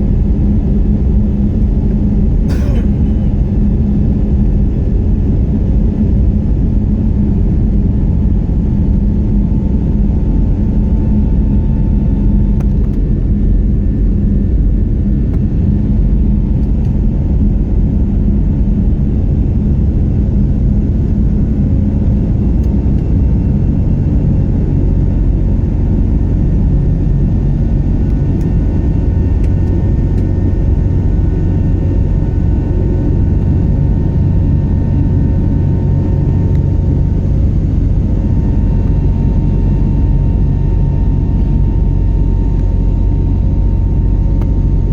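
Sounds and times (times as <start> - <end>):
airliner cabin rumble: 0.0 - 44.9
faint steady hum: 0.0 - 44.9.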